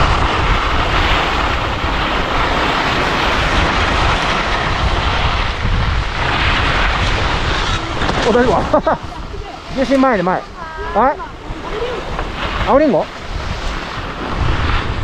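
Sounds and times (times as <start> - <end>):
skis sliding over snow: 0.0 - 15.0
wind on microphone: 0.0 - 15.0.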